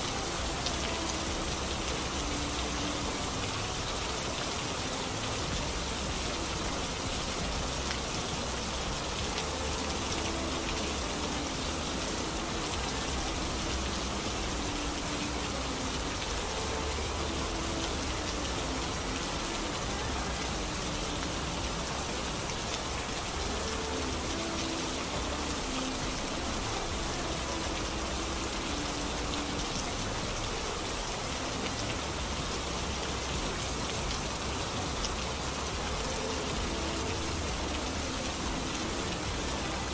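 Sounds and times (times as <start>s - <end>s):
recorded rain hiss: 0.0s - 39.9s.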